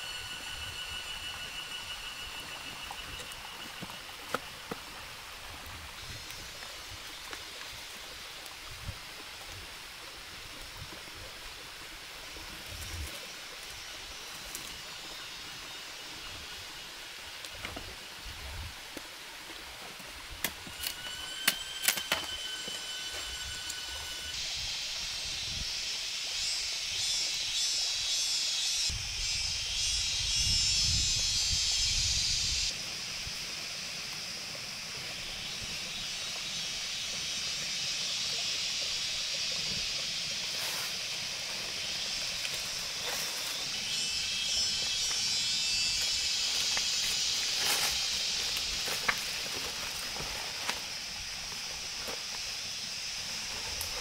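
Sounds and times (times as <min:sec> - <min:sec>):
high-pitched insect buzz: 0:00.0 - 0:08.6, 0:12.3 - 0:18.7, 0:20.4 - 0:54.0
dense high insect chorus: 0:00.0 - 0:54.0.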